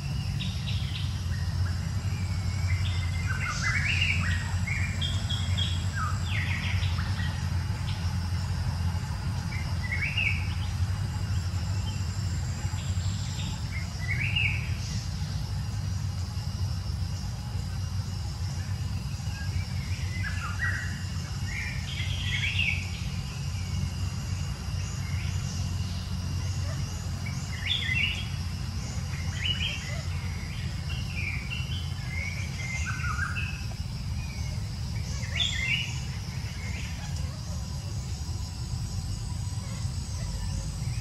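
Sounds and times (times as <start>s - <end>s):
steady low rumble: 0.0s - 41.0s.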